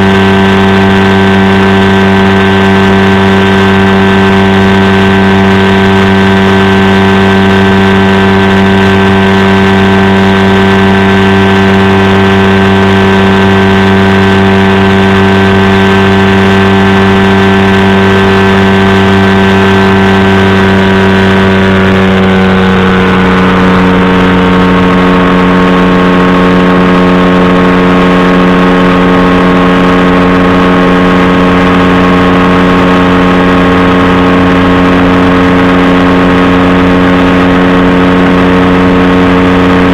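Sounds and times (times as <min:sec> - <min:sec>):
engine and propeller running: 0:00.0 - 0:39.9.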